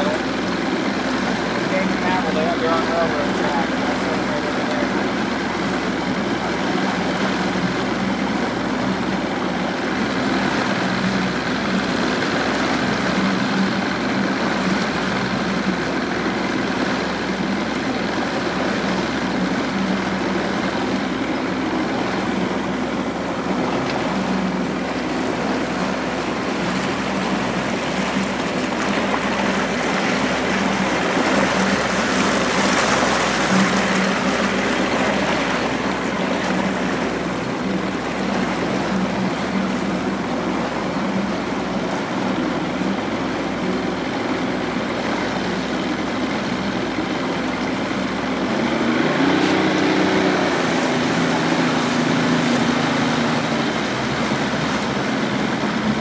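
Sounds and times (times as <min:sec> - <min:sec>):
motorboat engine drone: 0:00.0 - 0:56.0
water rushing along hull: 0:00.0 - 0:56.0.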